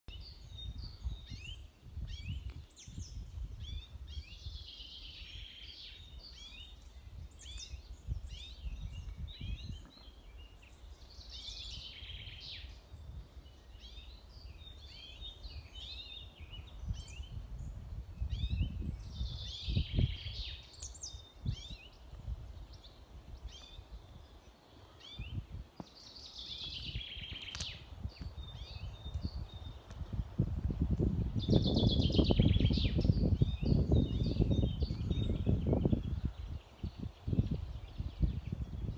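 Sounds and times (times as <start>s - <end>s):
songbirds singing and chirping: 0.1s - 38.9s.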